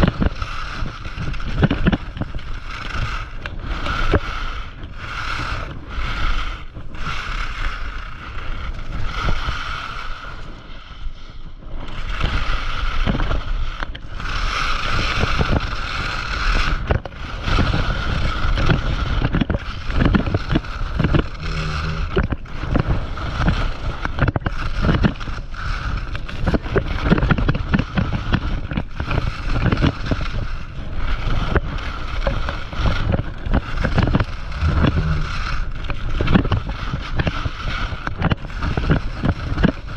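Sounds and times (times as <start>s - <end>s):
skis scraping over snow: 0.0s - 39.9s
wind on microphone: 0.0s - 39.9s.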